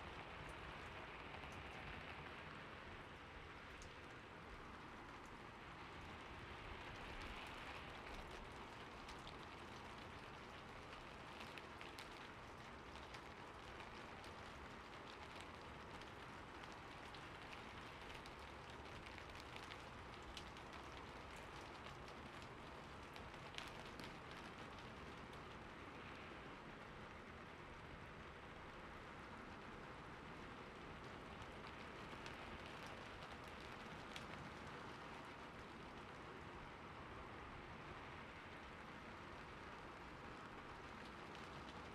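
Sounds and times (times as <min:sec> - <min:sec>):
faint steady rain: 0:00.0 - 0:41.9.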